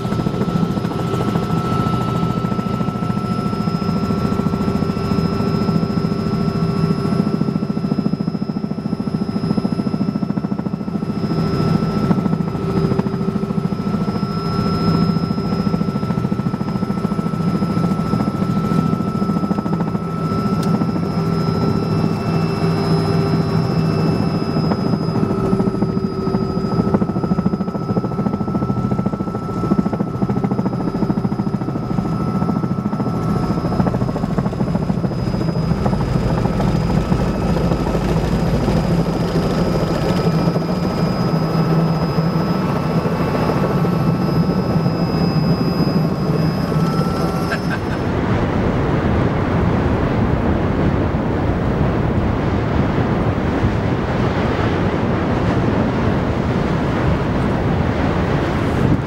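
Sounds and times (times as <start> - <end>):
helicopter engine and rotor drone: 0.0 - 59.0
thin steady whine: 0.0 - 59.0.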